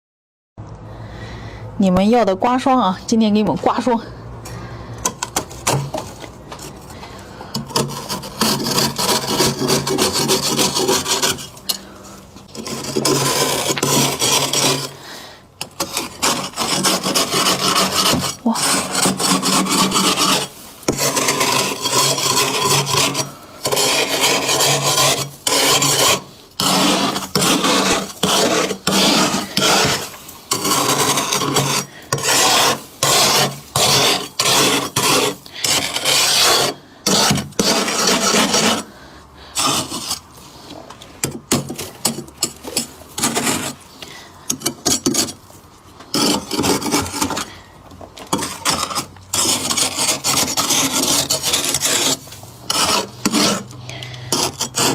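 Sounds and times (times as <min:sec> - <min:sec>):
frost being scraped: 0:05.1 - 0:47.7, 0:48.3 - 0:54.9.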